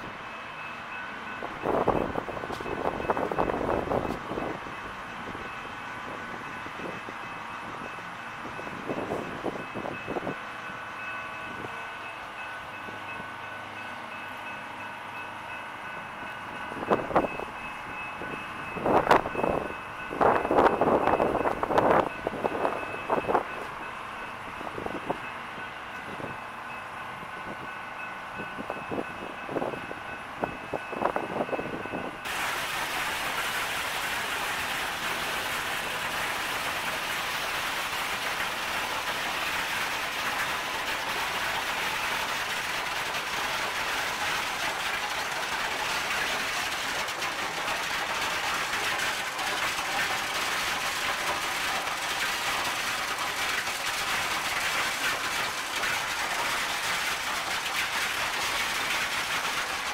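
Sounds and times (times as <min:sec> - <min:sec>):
train wheels rushing on track: 0:00.0 - 0:59.9.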